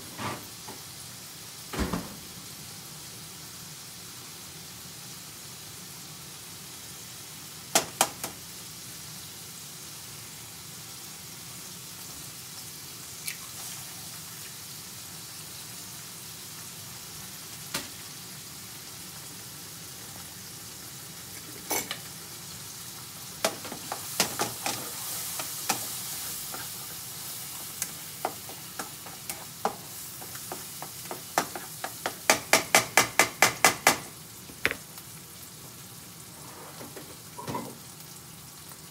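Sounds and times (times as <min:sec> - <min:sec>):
rice sizzling in a frying pan: 0:00.0 - 0:38.9.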